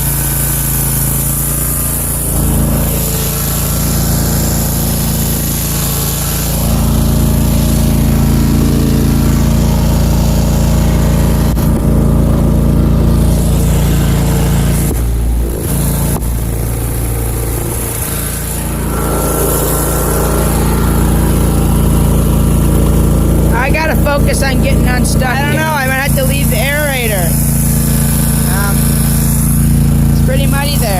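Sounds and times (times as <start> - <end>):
mower engine running: 0.0 - 30.9.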